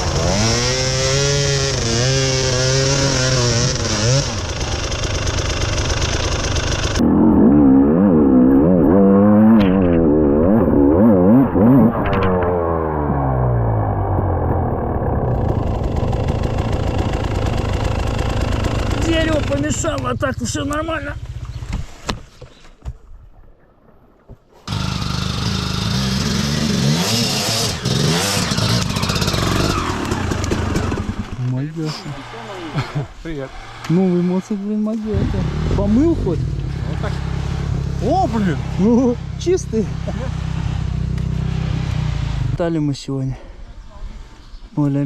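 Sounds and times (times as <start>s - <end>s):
dirt bike engine revving: 0.0s - 21.7s, 24.7s - 42.6s.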